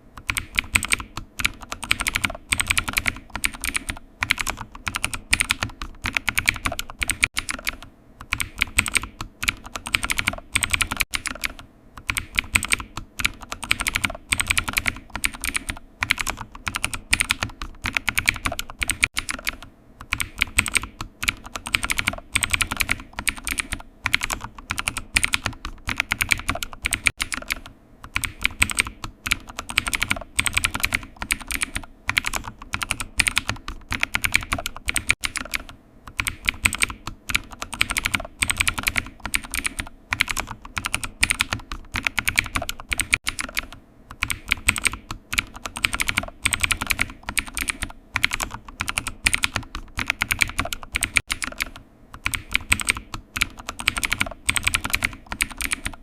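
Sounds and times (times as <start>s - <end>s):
keyboard typing clicks: 0.2s - 56.0s.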